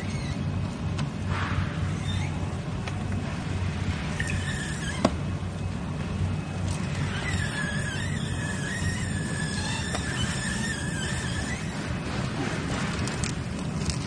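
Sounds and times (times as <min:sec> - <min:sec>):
belt conveyor humming: 0:00.0 - 0:14.0.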